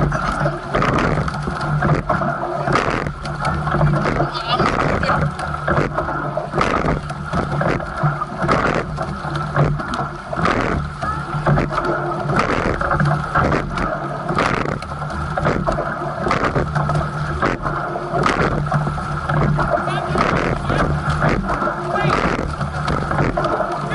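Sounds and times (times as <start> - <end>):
steady low hum: 0.0 - 23.9
water rushing along hull: 0.0 - 23.9.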